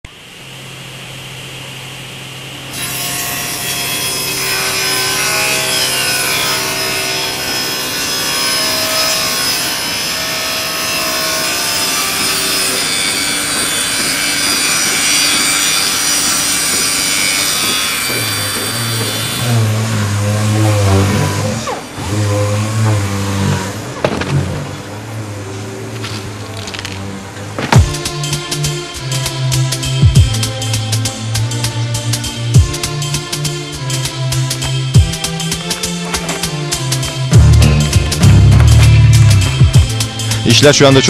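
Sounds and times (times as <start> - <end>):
rough rasping scraping: 3.9 - 28.9, 32.6 - 41.0.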